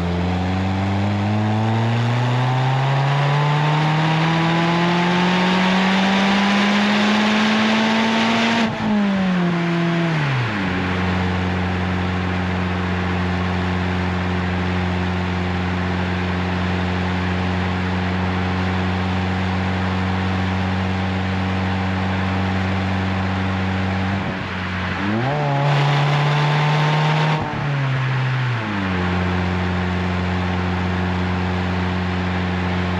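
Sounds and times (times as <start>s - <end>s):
car engine driving: 0.0s - 32.9s.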